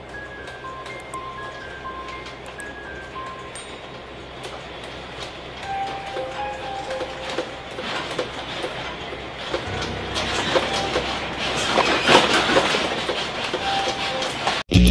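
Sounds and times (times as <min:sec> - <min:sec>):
bus interior rattling: 0:00.0 - 0:14.7.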